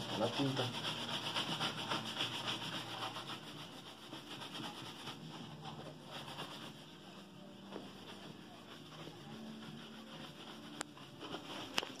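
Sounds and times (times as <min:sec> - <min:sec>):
brush scrubbing leather boot: 0:00.0 - 0:12.0.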